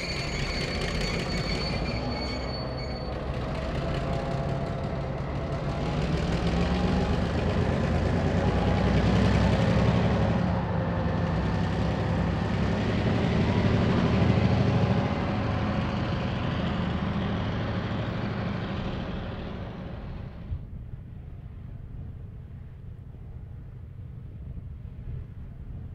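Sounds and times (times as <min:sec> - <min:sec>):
diesel locomotive engine rumble: 0:00.0 - 0:25.9.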